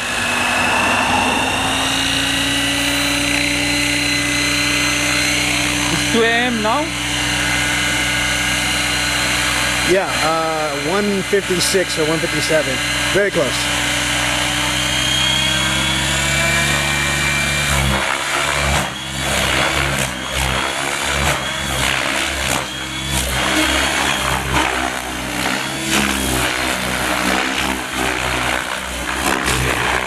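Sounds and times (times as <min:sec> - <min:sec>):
model helicopter rotor and motor: 0:00.0 - 0:30.0.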